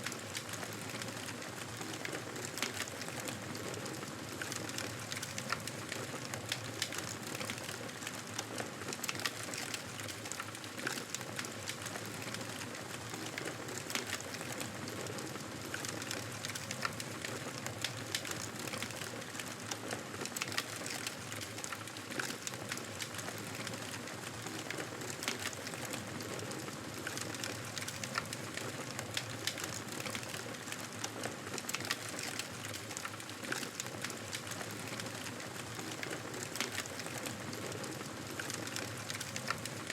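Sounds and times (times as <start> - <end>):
campfire crackling and hissing: 0.0 - 39.9.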